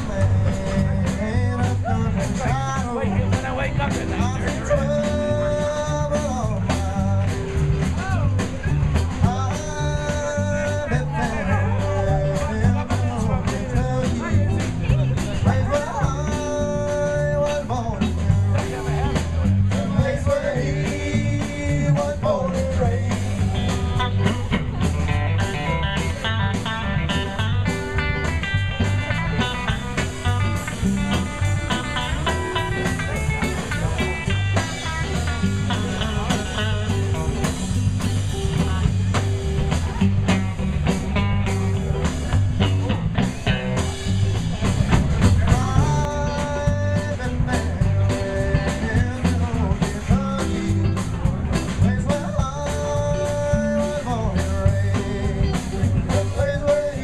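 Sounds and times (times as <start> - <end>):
blues rock song with singing: 0.0 - 57.0.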